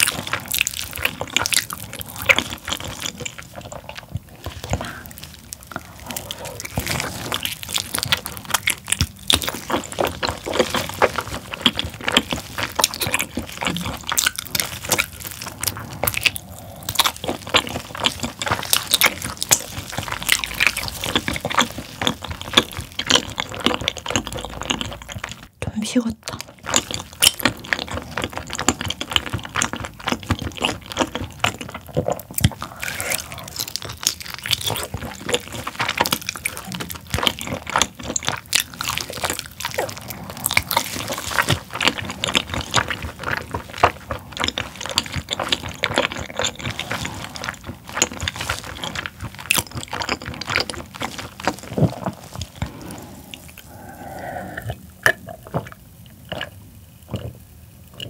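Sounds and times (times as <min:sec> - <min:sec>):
swallowing gulps: 0:00.0 - 0:25.5, 0:26.3 - 0:58.0
wet sticky chewing: 0:00.0 - 0:25.5, 0:26.2 - 0:58.0.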